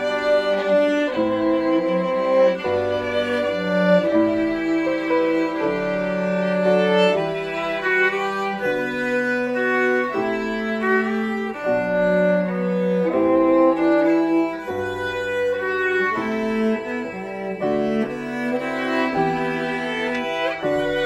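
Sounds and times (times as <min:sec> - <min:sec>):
bowed strings playing slow romance: 0:00.0 - 0:21.0
piano: 0:00.0 - 0:21.0.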